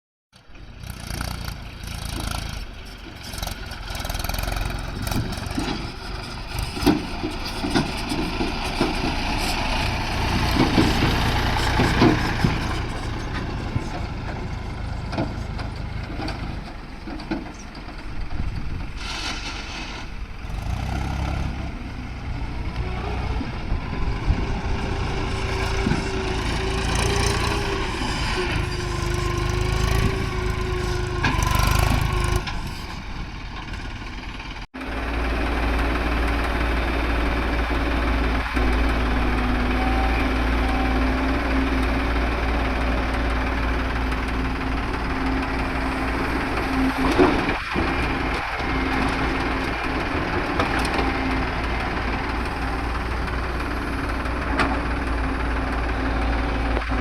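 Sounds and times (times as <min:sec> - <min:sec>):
diesel engines running: 0:00.4 - 0:57.0.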